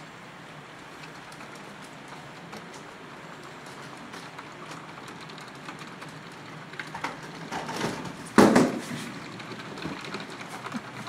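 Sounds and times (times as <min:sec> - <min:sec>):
model trains rumbling: 0:00.0 - 0:11.0
wheels clicking on track: 0:00.0 - 0:11.0.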